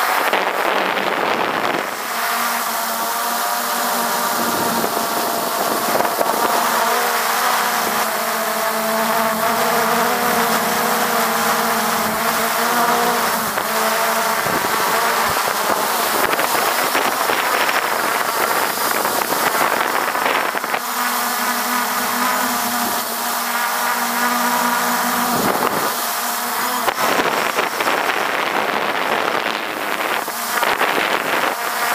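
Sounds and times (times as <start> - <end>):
drone motors buzzing: 0.0 - 31.9.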